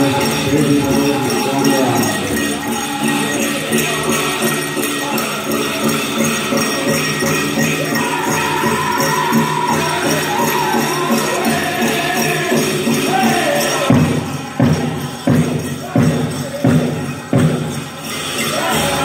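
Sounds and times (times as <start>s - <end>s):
drumbeat: 0.0s - 19.0s
jingling bells: 0.0s - 19.0s
people singing high lines: 0.0s - 19.0s.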